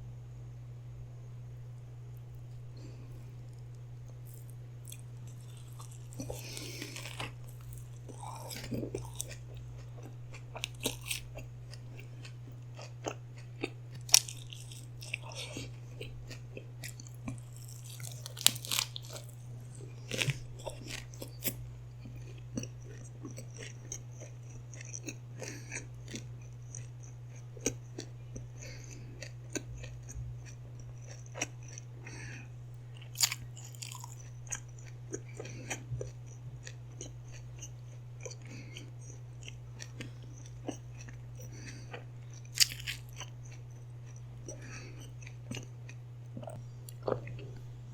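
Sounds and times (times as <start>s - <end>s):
steady low hum: 0.0s - 47.9s
chewing and crunching food: 2.1s - 47.9s.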